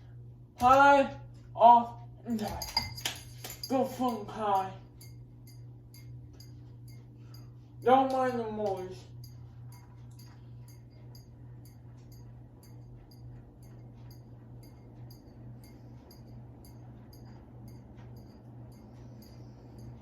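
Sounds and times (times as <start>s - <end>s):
ceiling fan motor hum: 0.0s - 20.0s
faint regular ticking: 3.0s - 20.0s.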